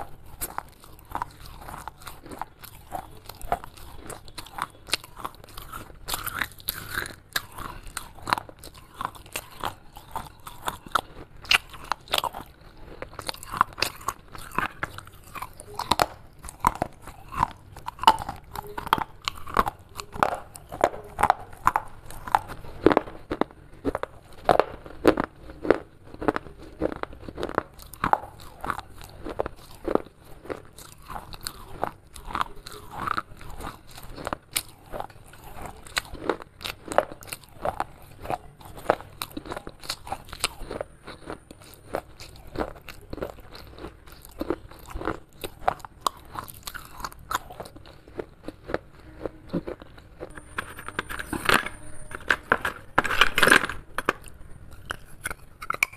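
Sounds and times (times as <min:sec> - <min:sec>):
crunching clay between teeth: 0:00.0 - 0:55.9.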